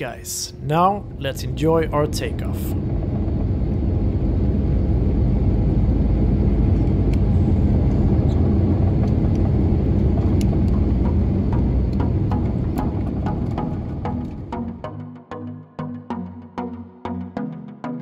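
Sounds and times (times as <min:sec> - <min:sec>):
engines and runway rumble: 0:00.0 - 0:14.8.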